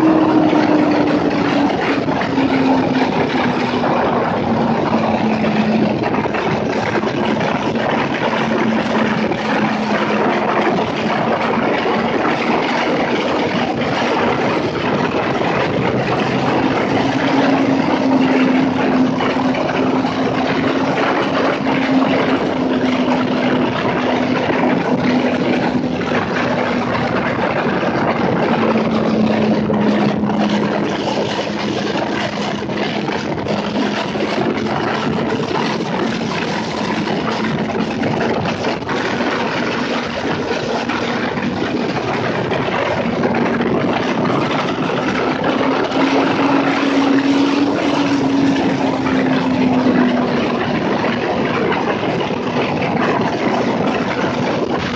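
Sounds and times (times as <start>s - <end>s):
motorcycle engine: 0.0s - 54.9s
wind and road noise: 0.0s - 54.9s.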